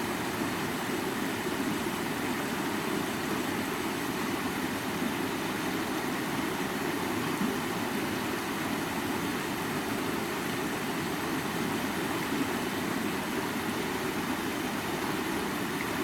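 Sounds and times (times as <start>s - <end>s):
stream water running over rocks: 0.0s - 16.0s.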